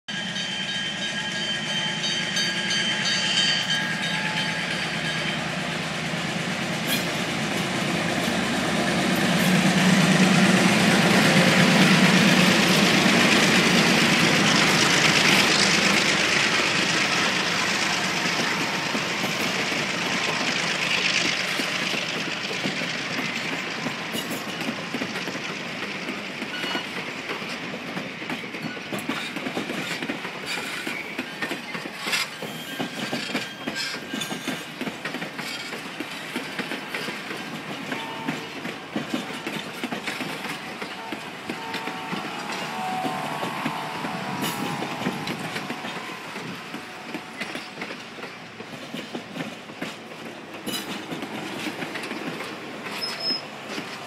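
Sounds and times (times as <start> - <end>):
diesel locomotive engine: 0.1 - 54.0
wheels clacking over rail joints: 3.7 - 54.0.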